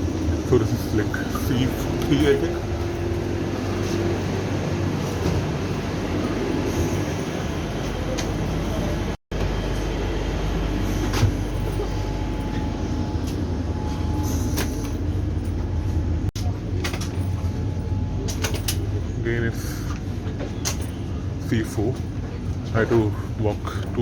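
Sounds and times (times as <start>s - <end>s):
train coach hum and rush: 0.0s - 24.0s.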